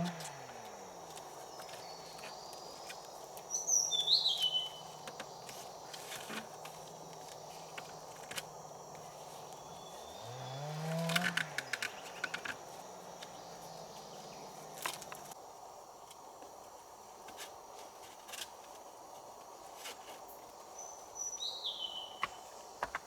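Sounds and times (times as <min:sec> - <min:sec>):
faint high insect-like tone: 0:00.0 - 0:23.0
outdoor background noise: 0:00.0 - 0:23.0.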